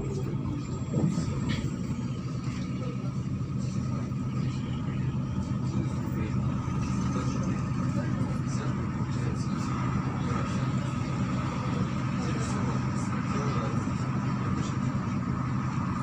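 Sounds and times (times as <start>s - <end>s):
bus engine hum: 0.0s - 16.0s
thin steady whine: 0.0s - 16.0s.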